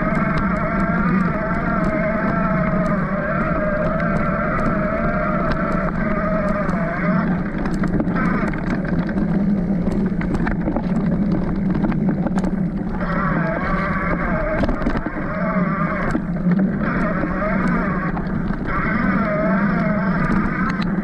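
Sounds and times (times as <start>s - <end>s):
bike rattling and knocking: 0.0s - 21.0s
wavering whine: 0.0s - 21.0s
wind rumble on microphone: 0.0s - 21.0s.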